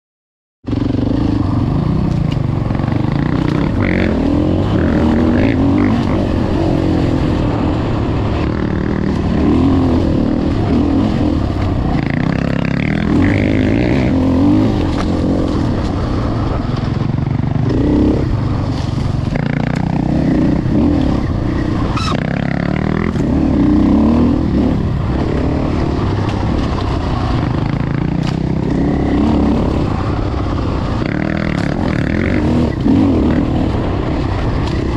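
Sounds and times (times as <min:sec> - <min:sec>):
dirt bike engine revving: 0:00.7 - 0:34.9.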